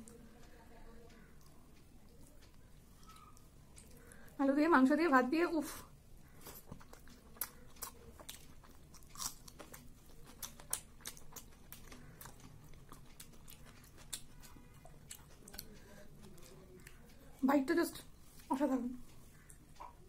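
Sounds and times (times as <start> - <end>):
person chewing food: 0.0 - 4.4, 6.0 - 17.4, 18.1 - 20.0.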